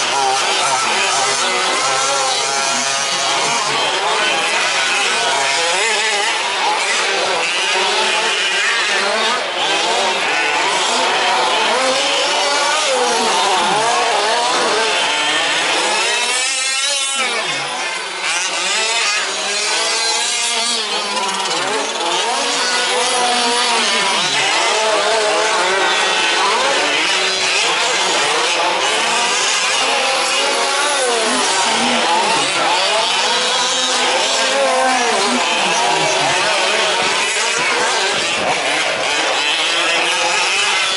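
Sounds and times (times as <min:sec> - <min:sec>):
rc truck engines buzzing: 0:00.0 - 0:40.9
truck engine revving close by: 0:00.0 - 0:40.9.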